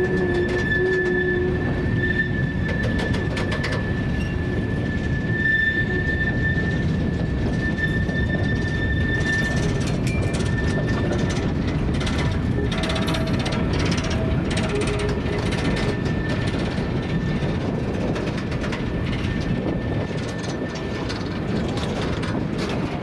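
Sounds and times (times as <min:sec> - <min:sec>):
high wheel squeal: 0:00.0 - 0:23.0
train wheels rumbling on rail: 0:00.0 - 0:23.0.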